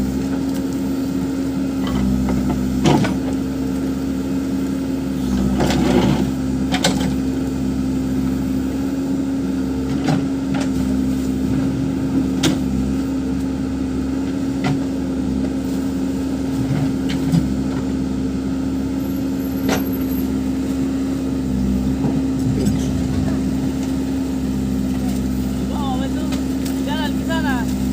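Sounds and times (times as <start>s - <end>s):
backhoe diesel engine running: 0.0s - 27.9s.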